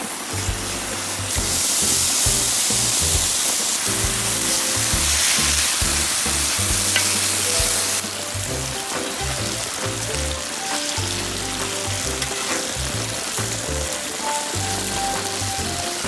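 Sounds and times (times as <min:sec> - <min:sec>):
food sizzling in a hot pan: 0:00.0 - 0:16.0.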